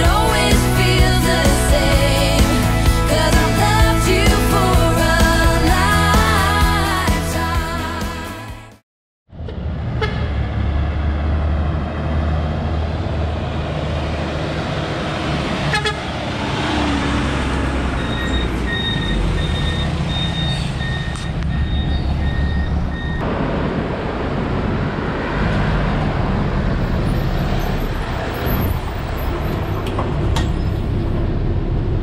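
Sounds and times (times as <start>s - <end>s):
vehicle engines rumbling: 0.0s - 5.2s, 9.3s - 32.0s.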